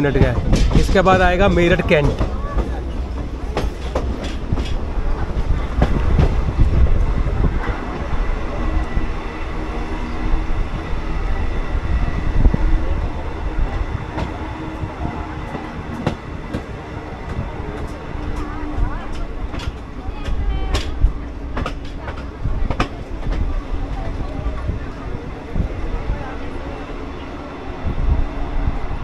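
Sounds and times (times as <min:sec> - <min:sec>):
train coach rumbling: 0:00.0 - 0:29.0.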